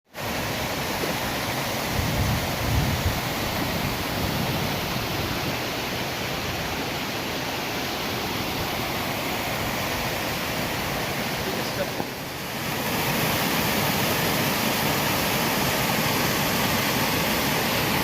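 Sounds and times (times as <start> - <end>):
waterfall rushing: 0.1 - 18.0.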